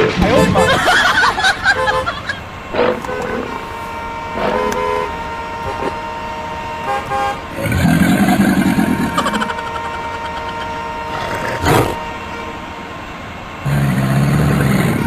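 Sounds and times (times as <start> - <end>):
steady tone: 0.0 - 13.7
vehicle horns honking: 0.0 - 15.0.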